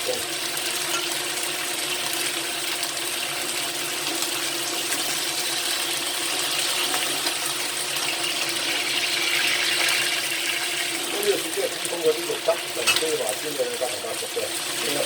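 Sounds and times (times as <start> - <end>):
ribs sizzling in oil: 0.0 - 15.0.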